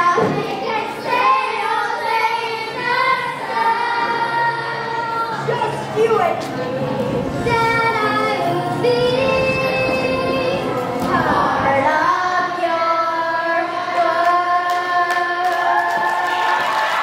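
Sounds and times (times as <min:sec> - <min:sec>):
backing music: 0:00.0 - 0:16.5
children singing: 0:00.0 - 0:17.0.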